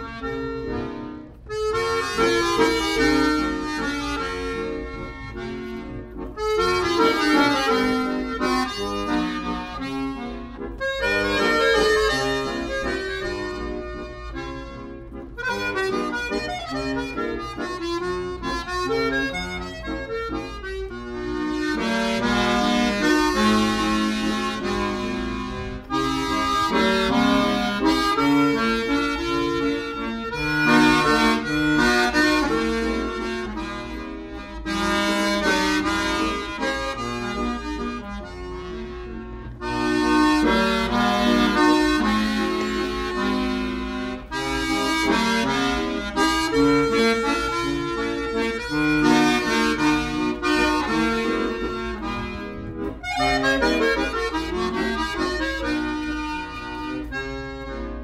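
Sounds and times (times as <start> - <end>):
instrumental background music: 0.0 - 58.0.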